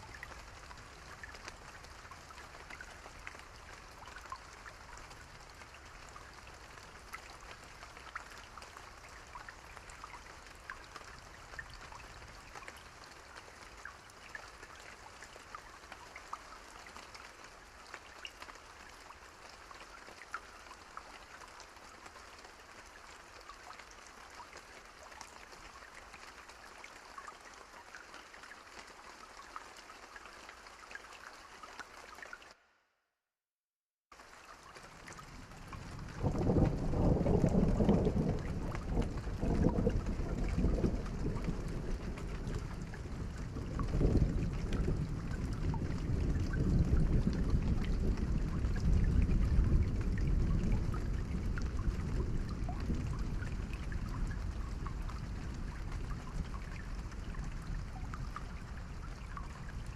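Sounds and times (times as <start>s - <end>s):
raindrops ticking on a surface: 0.0s - 32.6s, 34.1s - 59.9s
steady rain falling: 0.0s - 32.6s, 34.1s - 59.9s.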